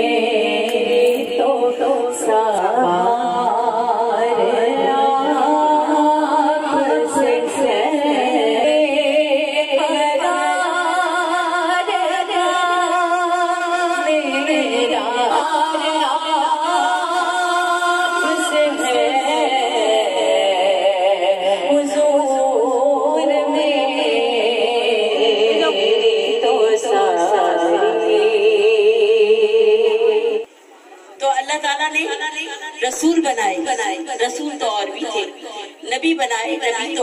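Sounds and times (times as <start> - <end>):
voices singing unaccompanied: 0.0 - 30.5.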